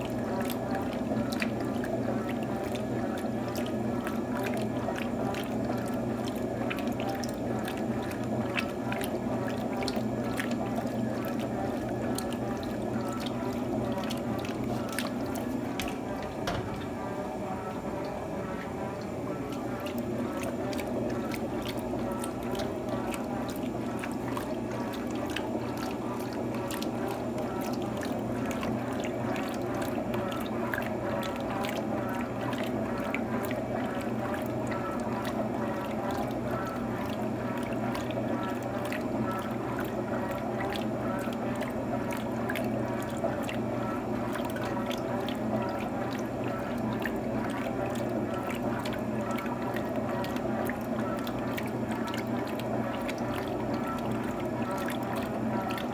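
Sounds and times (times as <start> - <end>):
low motor hum: 0.0 - 55.9
washing machine water splashing: 0.0 - 55.9.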